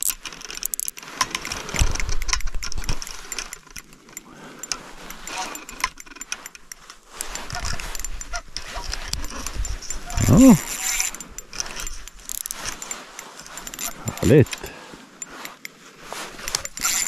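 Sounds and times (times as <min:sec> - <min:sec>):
fishing reel clicking and rattling: 0:00.0 - 0:17.0.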